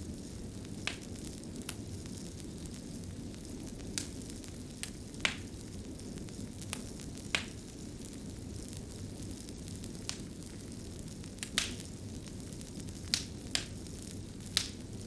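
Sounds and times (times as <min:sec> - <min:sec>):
fire crackling: 0:00.0 - 0:15.0
sharp fire pops: 0:00.0 - 0:15.0.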